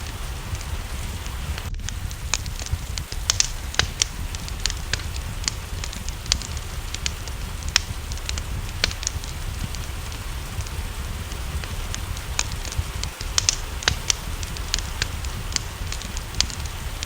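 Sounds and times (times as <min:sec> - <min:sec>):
rain hissing: 0:00.0 - 0:17.0
wood fire crackling and popping: 0:00.0 - 0:17.0.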